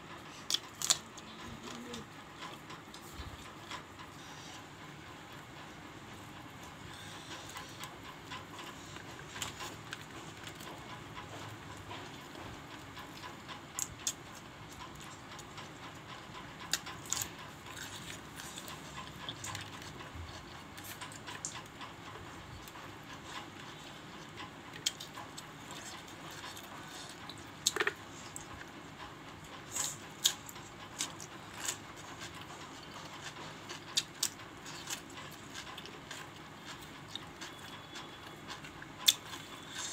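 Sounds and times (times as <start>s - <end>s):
chewing: 0.1s - 39.9s
fingers mixing food on a plate: 0.1s - 39.9s.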